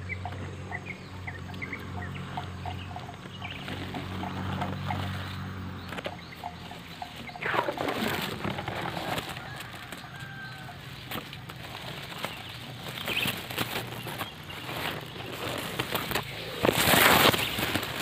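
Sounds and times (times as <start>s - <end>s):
bird calls: 0.0s - 18.0s.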